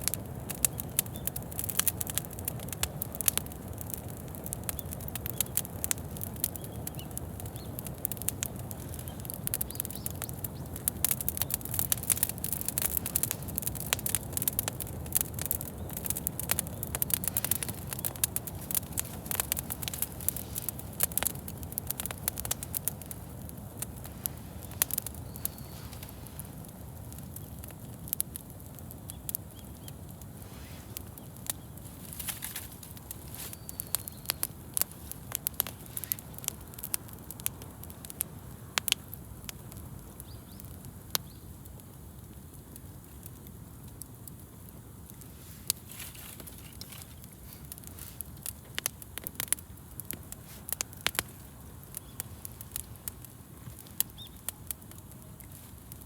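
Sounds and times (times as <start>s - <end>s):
campfire crackling and popping: 0.0s - 56.0s
low rumble of burning fire: 0.0s - 56.0s.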